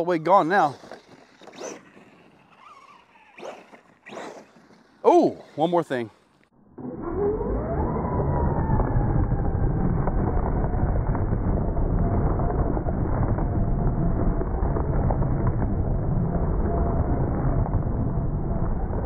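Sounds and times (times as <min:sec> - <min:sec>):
rc truck rumble: 0:00.0 - 0:19.0.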